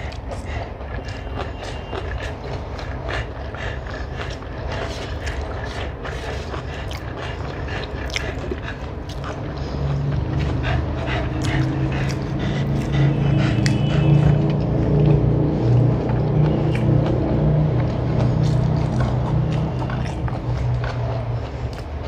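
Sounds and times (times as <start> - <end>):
chewing and mouth clicks: 0.0 - 22.0
steady low rumble: 2.1 - 22.0.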